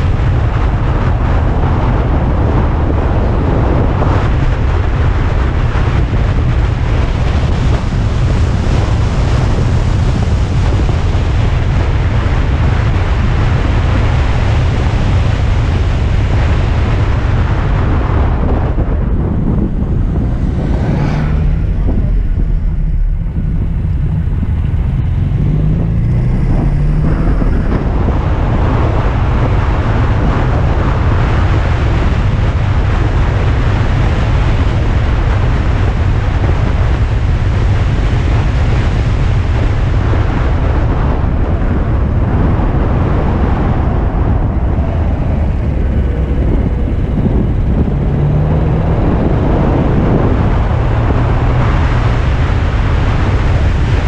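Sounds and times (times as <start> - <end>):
car engine running: 0.0 - 54.0
wind and road noise: 0.0 - 54.0.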